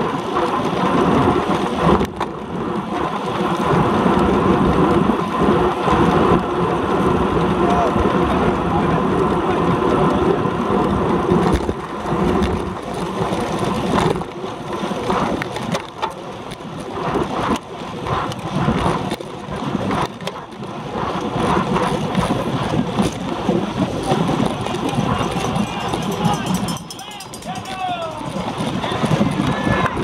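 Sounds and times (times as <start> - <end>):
tyre and road noise: 0.0 - 30.0
wind rushing over microphone: 0.0 - 30.0.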